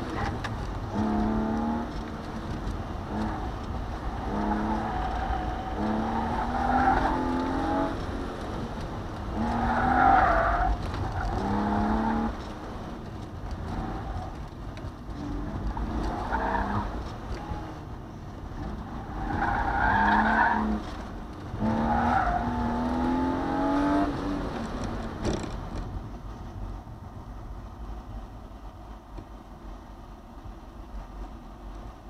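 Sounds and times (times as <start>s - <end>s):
car engine revving: 0.0s - 25.7s.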